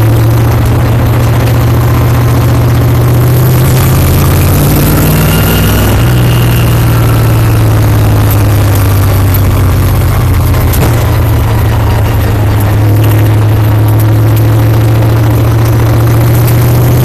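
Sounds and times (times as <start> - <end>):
race car engine running: 0.0 - 17.0.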